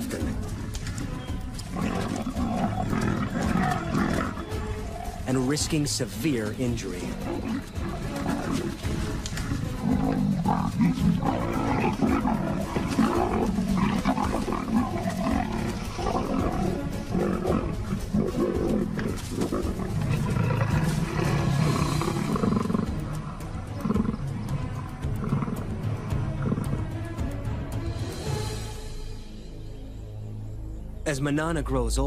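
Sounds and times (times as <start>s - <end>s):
leopards fighting calls: 0.0s - 27.5s
background music: 0.0s - 32.0s.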